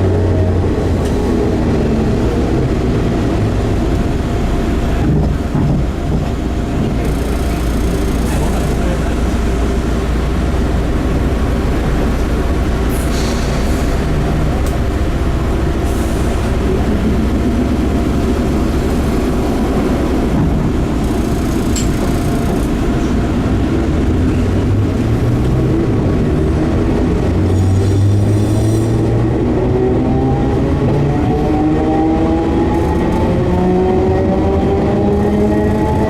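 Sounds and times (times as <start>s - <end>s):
train wheels on rail: 0.0s - 36.0s.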